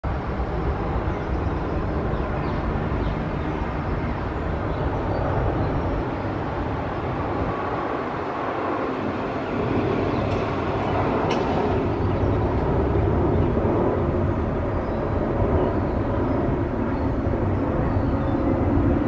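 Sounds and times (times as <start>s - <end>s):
jet engines rushing and rumbling: 0.0s - 19.0s.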